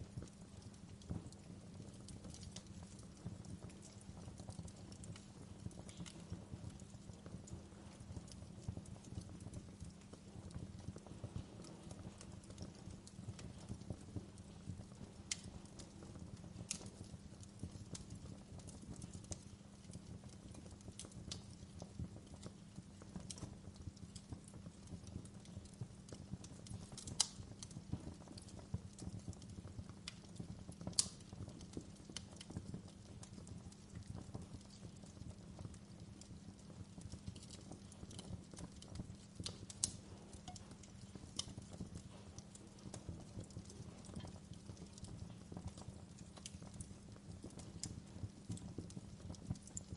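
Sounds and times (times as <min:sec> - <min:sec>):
log fire crackling: 0:00.0 - 0:49.9.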